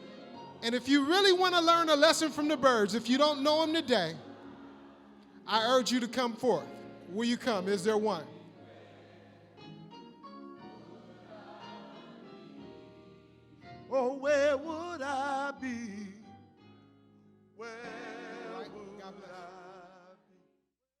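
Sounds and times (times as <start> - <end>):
gospel singing with vibrato: 0.0 - 16.4, 17.6 - 20.3.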